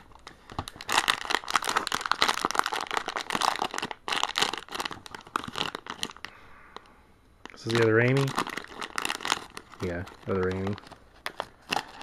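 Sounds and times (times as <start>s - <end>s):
foil pouch crinkling: 0.0s - 6.4s, 7.4s - 12.0s.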